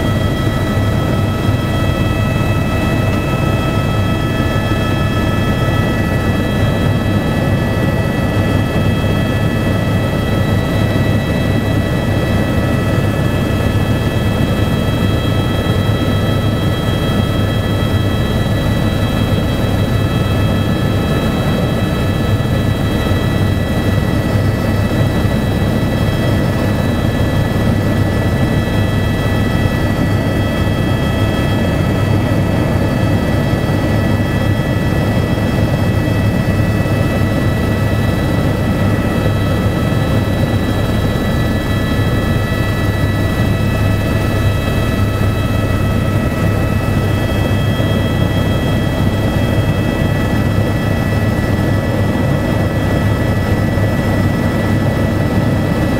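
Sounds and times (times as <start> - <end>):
helicopter engine and rotor drone: 0.0 - 55.9.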